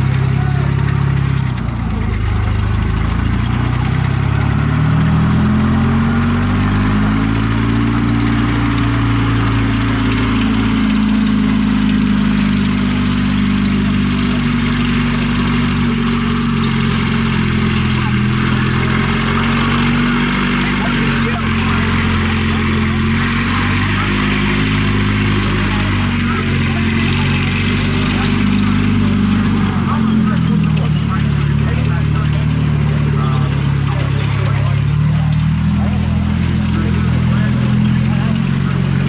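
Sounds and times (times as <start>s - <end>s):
tank engine driving: 0.0s - 39.0s.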